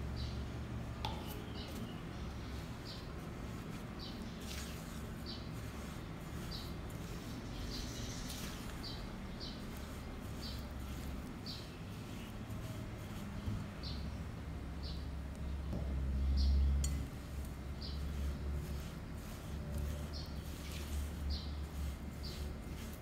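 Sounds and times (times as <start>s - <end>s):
steady low hum: 0.0s - 23.0s
spatula scraping glass bowl: 1.1s - 14.0s, 16.8s - 23.0s.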